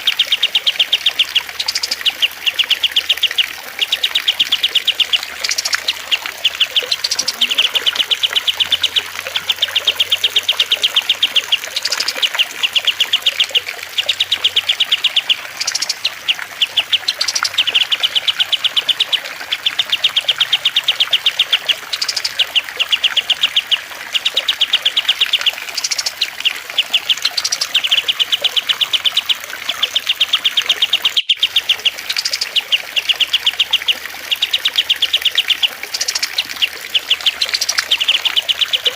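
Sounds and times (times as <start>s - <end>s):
birds trilling and chirping: 0.0s - 38.9s
trickle of water: 0.0s - 38.9s.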